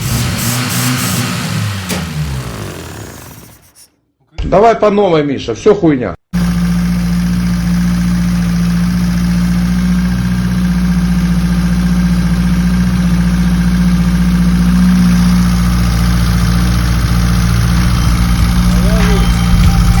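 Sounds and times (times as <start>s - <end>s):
engine idling: 0.0s - 3.8s, 6.4s - 20.0s.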